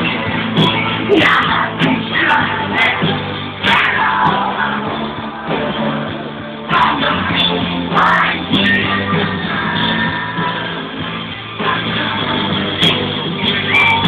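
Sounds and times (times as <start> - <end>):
live pop-rock band playing: 0.0 - 14.0
person singing: 0.0 - 14.0.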